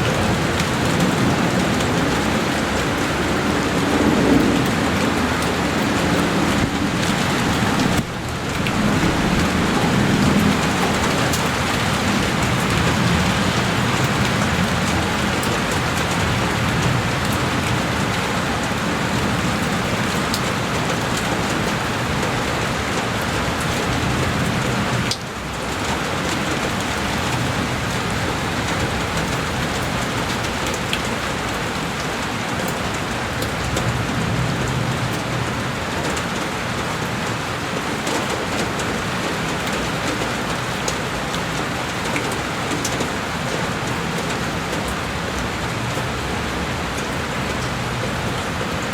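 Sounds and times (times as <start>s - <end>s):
heavy rain on a window: 0.0s - 48.9s.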